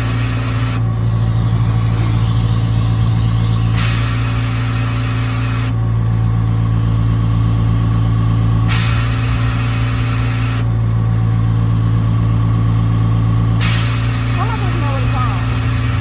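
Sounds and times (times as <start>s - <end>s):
air compressor humming: 0.0s - 16.0s
air hissing: 0.0s - 16.0s.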